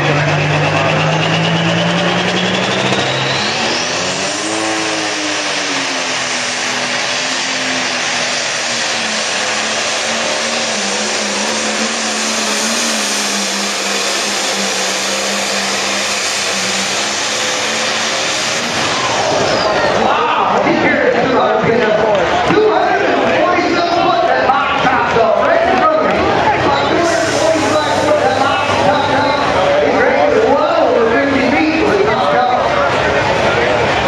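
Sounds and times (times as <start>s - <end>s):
diesel engine at full load: 0.0s - 34.0s
high turbo whine: 0.0s - 34.0s.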